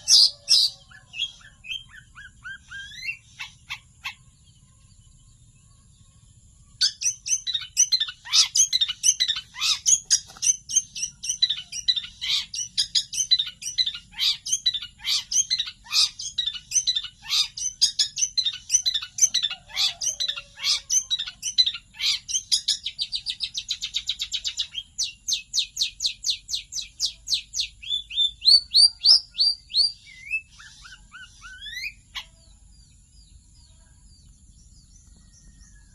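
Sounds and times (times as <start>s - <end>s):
songbird singing rapid trills: 0.0s - 35.9s.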